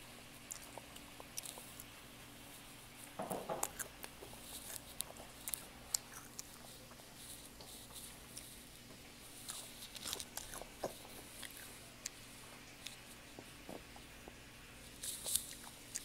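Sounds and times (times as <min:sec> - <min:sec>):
crunchy chewing: 0:00.3 - 0:16.0.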